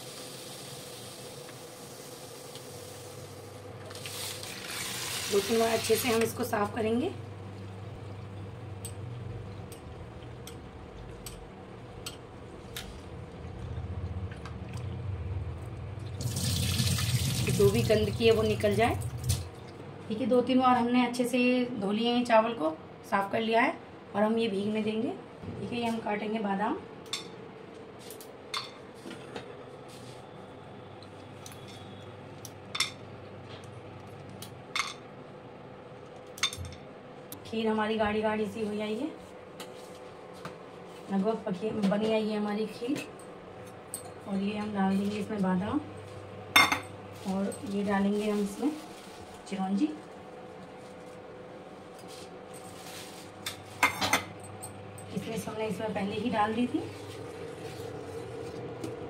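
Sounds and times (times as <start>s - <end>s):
steady low hum: 5.6s - 16.2s, 17.5s - 59.0s.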